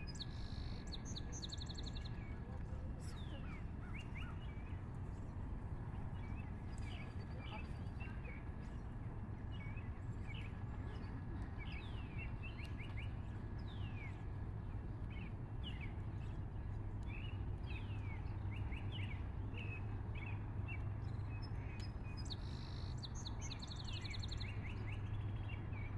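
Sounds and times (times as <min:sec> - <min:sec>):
small birds chirping: 0:00.0 - 0:05.3, 0:09.6 - 0:25.9.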